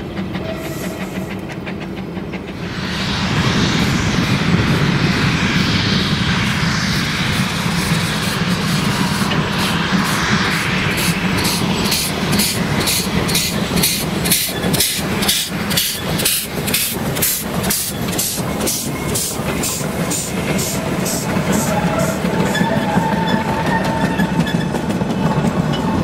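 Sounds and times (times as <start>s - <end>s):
steam locomotive exhaust chuffing: 0.0s - 26.0s.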